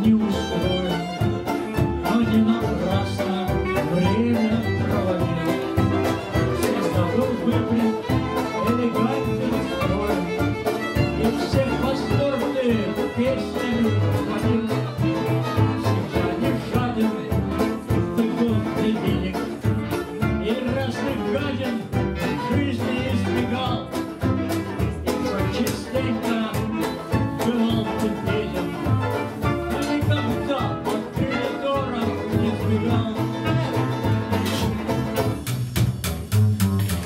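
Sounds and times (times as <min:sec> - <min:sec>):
clarinet: 0:00.0 - 0:35.4
fiddle: 0:00.0 - 0:35.5
double bass beat: 0:00.0 - 0:37.0
plucked strings: 0:00.0 - 0:37.0.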